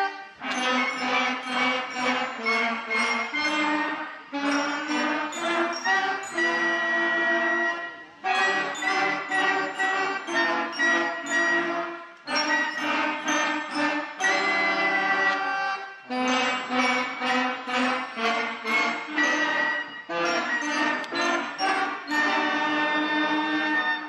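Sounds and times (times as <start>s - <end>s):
beginner concert band playing: 0.0s - 24.0s.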